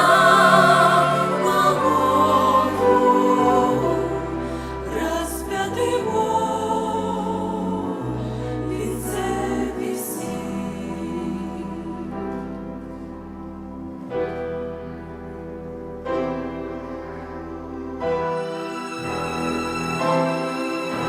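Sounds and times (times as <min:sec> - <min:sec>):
church choir singing: 0:00.0 - 0:14.2, 0:16.2 - 0:21.0.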